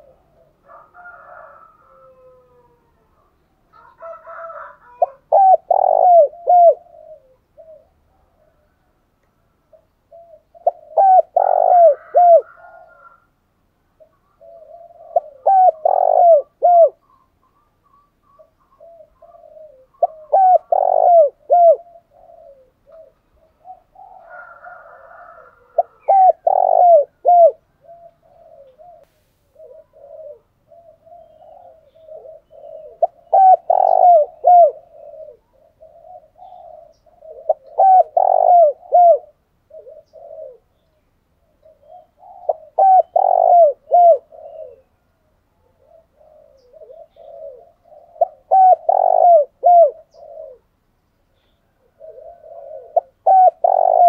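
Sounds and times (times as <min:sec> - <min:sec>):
dove cooing: 0:00.0 - 0:08.9, 0:09.6 - 0:13.3, 0:13.9 - 0:50.8, 0:51.4 - 0:54.0.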